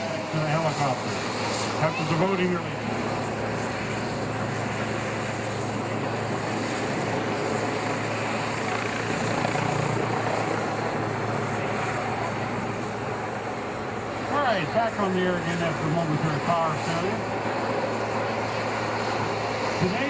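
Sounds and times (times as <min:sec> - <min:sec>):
helicopter in flight: 0:00.0 - 0:20.0.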